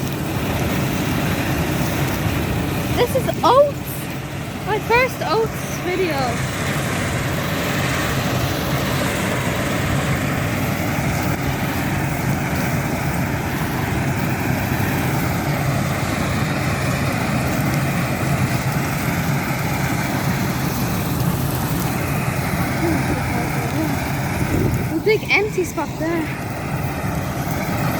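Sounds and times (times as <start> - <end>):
combine harvester droning: 0.0 - 27.9.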